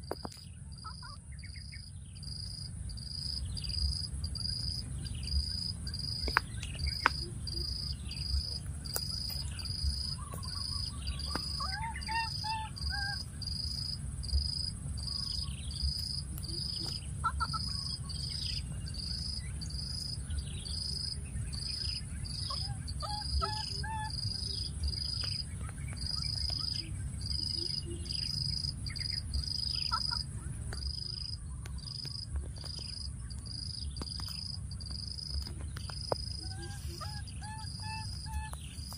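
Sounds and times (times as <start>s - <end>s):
low rumble: 0.0s - 38.9s
pitched chirping calls: 3.3s - 38.9s.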